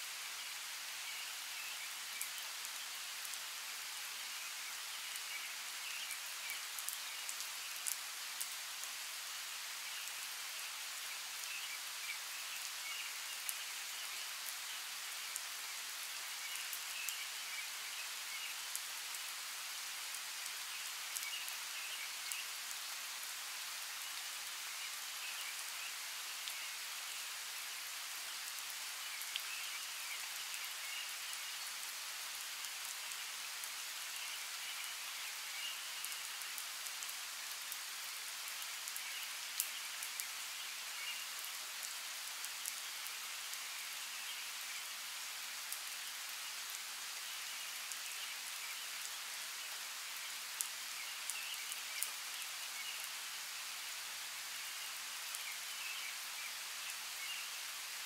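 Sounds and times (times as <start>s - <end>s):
rain on foliage: 0.0s - 58.0s.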